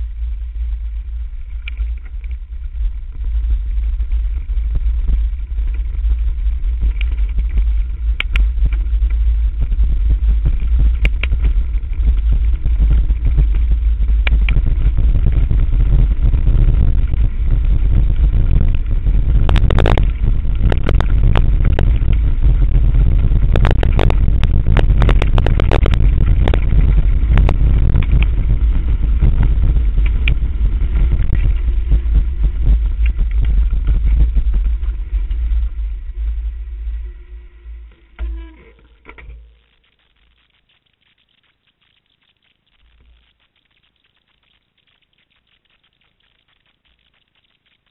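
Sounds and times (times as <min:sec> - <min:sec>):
wind rumbling on microphone: 0:00.0 - 0:47.9.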